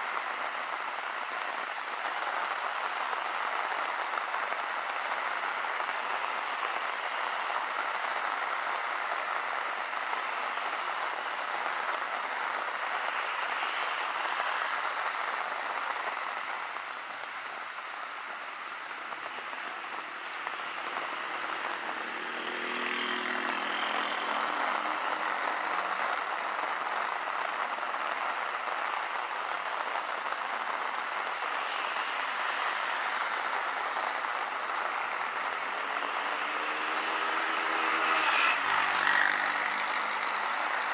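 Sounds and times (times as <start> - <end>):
steady rain on a street: 0.0 - 40.9.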